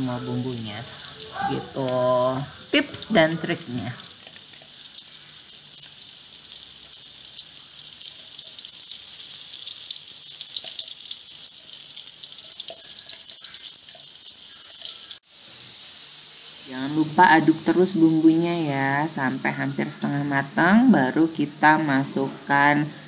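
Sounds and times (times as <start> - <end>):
spice paste sizzling in oil: 0.0 - 23.0.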